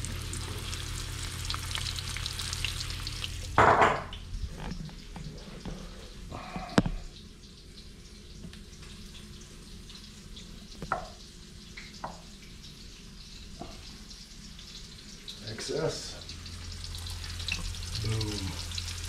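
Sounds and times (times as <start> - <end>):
low kitchen hum: 0.0 - 19.0.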